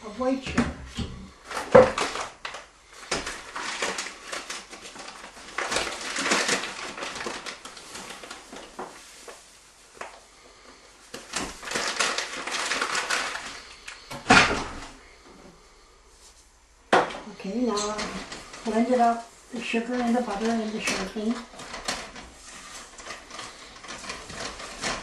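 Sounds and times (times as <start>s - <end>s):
sugar bag crinkling: 1.3s - 14.1s, 17.4s - 25.0s.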